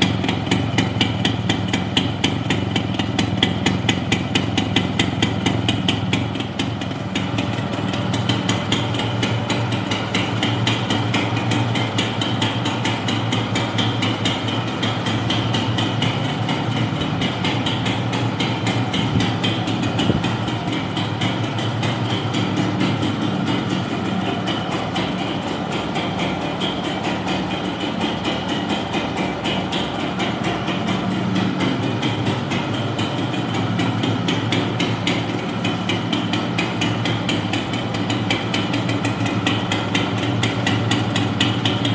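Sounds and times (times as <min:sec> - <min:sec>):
two-stroke engine idling: 0:00.0 - 0:41.9.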